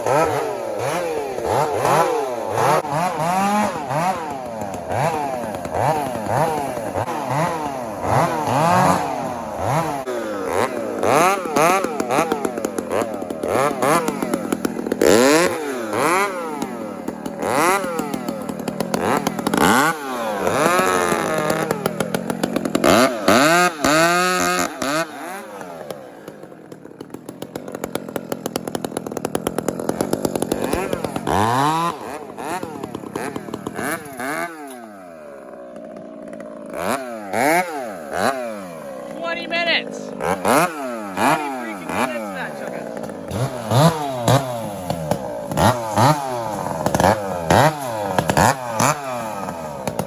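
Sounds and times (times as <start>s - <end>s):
chainsaws revving and idling: 0.0s - 50.0s.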